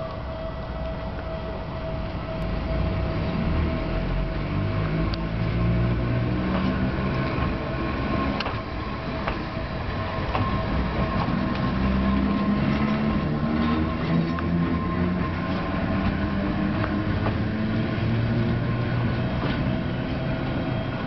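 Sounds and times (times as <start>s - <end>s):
locomotive rumbling past: 0.0s - 21.0s.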